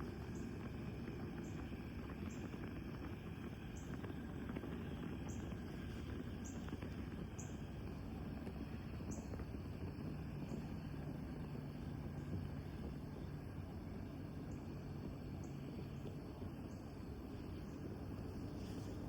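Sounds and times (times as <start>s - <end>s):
fire burning in fireplace: 0.0s - 19.0s.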